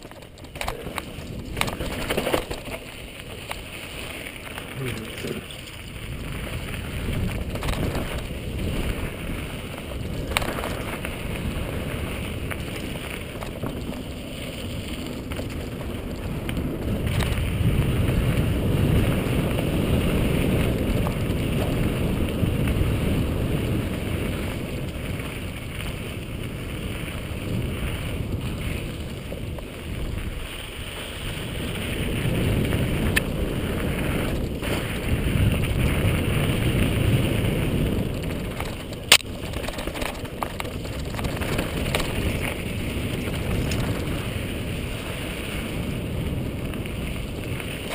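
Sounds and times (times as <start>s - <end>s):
bike knocks and rattles: 0.0s - 5.8s, 6.5s - 30.2s, 31.9s - 44.6s
tyres rolling on dirt: 0.0s - 47.9s
wind buffeting microphone: 0.0s - 47.9s.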